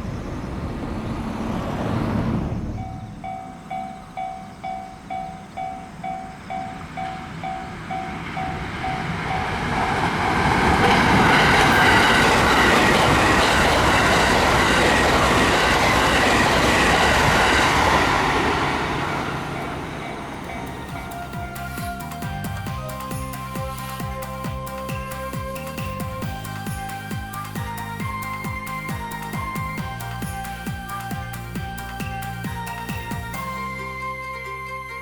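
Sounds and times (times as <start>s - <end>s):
train passing over crossing: 0.0s - 35.0s
level-crossing warning bell: 2.8s - 35.0s.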